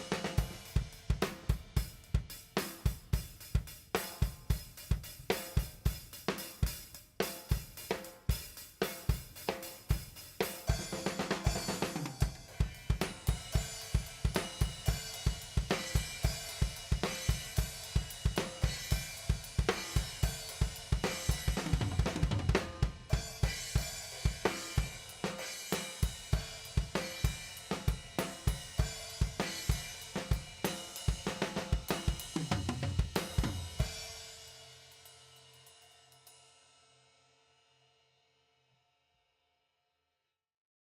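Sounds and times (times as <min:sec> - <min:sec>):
fast drum kit beat: 0:00.0 - 0:36.3.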